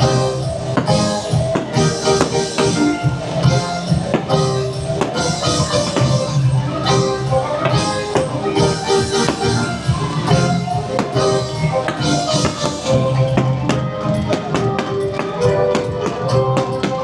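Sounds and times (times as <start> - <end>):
upbeat instrumental music over speakers: 0.0 - 17.0.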